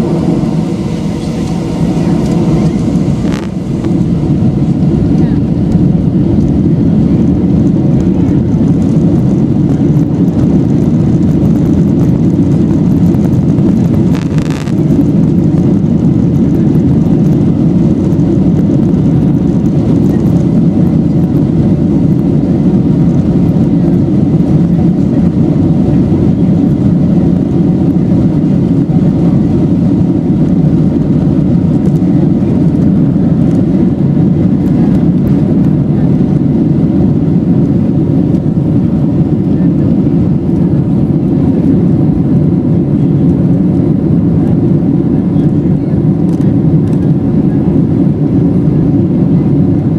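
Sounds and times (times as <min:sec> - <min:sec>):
jet engines rumbling in cabin: 0:00.0 - 0:49.9.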